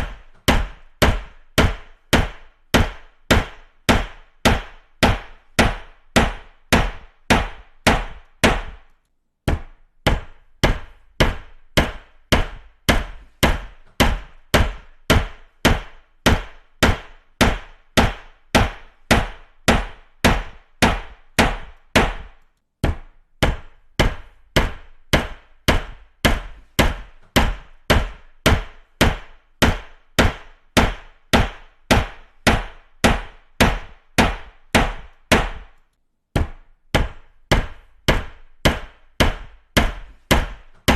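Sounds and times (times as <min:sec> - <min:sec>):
hammer striking: 0:00.0 - 0:35.8, 0:36.4 - 0:40.9.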